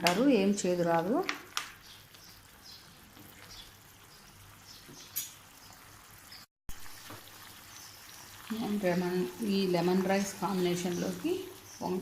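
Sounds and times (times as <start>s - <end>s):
sauce simmering in a pan: 1.2s - 12.0s.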